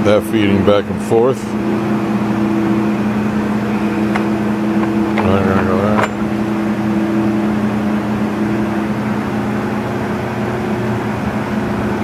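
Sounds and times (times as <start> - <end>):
lathe running with steady hum: 0.0 - 12.0.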